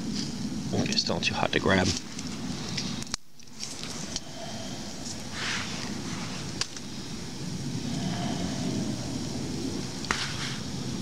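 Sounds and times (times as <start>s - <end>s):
burning wood crackle: 0.0s - 11.0s
low rush of fire and water: 0.0s - 11.0s.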